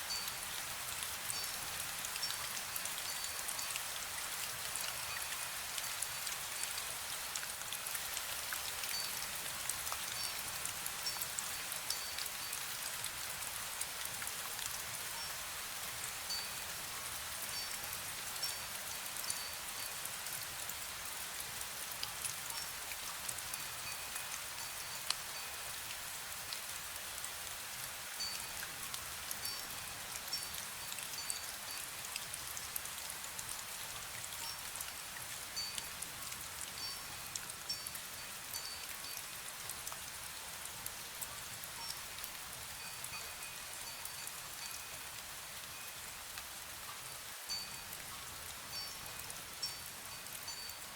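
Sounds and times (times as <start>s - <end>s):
faint high wind-bell tone: 0.0s - 50.9s
light rain ticking on surfaces: 0.0s - 50.9s.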